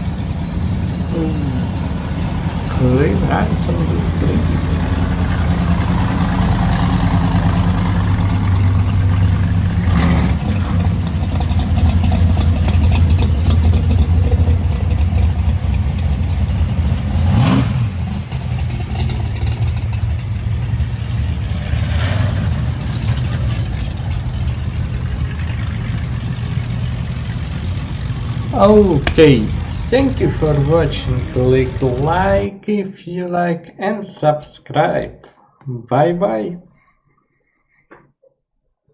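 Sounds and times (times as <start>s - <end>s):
car engine revving: 0.0s - 32.5s
car engines rumbling: 0.0s - 32.5s.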